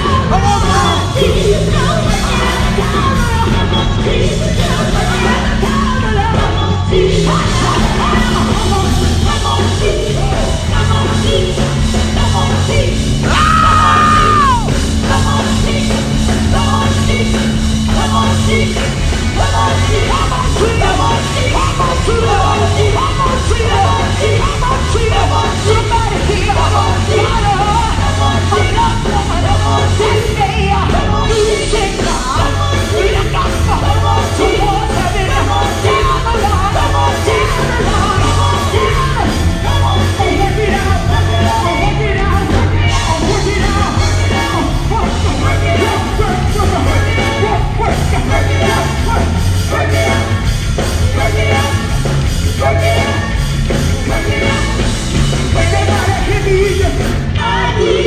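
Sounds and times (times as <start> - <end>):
gospel singers shouting and singing: 0.0 - 58.0
loud band with steady beat: 0.0 - 58.0.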